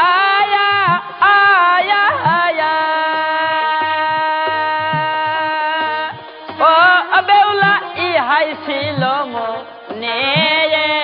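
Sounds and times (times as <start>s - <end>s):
steady drumbeat: 0.0s - 11.0s.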